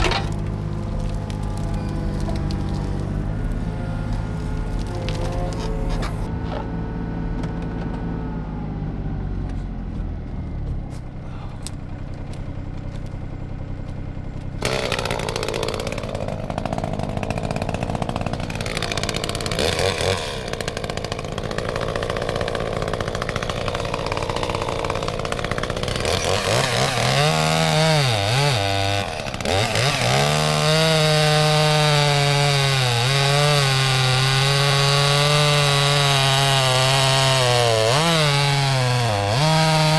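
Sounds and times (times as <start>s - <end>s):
chainsaw cutting wood: 0.0s - 6.4s, 13.9s - 39.9s.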